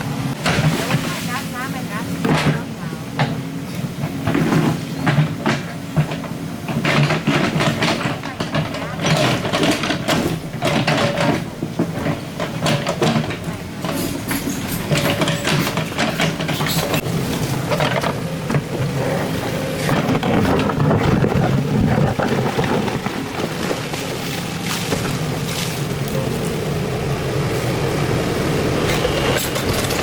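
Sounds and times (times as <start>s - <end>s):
bucket clanking and scraping: 0.0s - 26.6s, 28.7s - 30.0s
excavator diesel engine: 0.0s - 30.0s.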